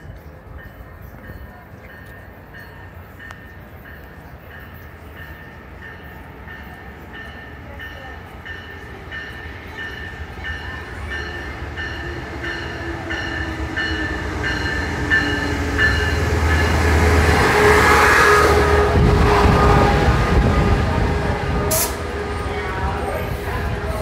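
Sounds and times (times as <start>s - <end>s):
passenger train rumbling past: 0.0s - 24.0s.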